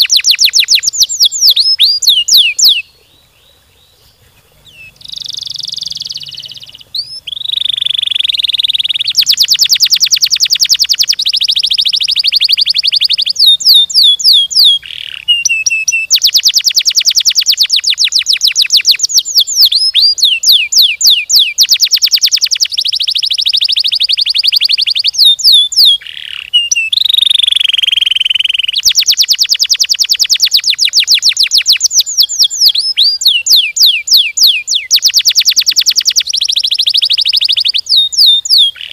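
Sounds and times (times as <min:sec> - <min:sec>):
canary singing fast trills: 0:00.0 - 0:38.9.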